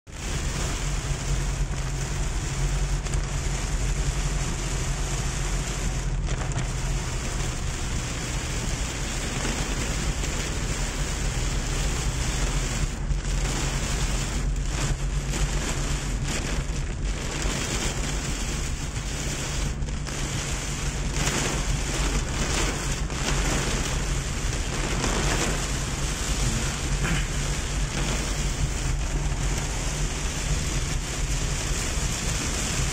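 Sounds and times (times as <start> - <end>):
heavy rain on car roof: 0.0 - 32.9
low hum of moving car: 0.1 - 32.9.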